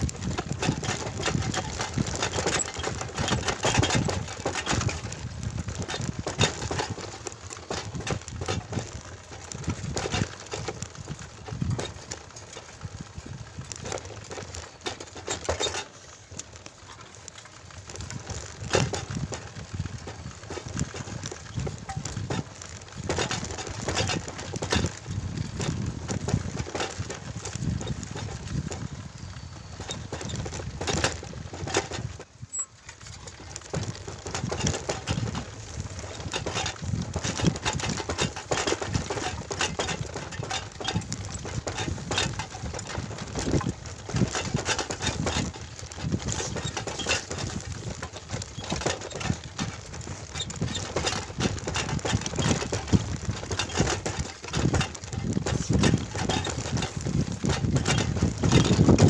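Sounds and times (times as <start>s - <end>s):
motorcycle on bumpy dirt path: 0.0s - 59.0s.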